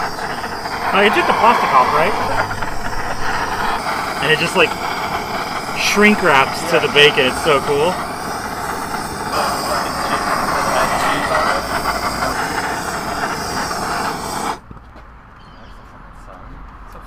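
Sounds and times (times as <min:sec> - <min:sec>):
blowtorch flame hissing: 0:00.0 - 0:14.6.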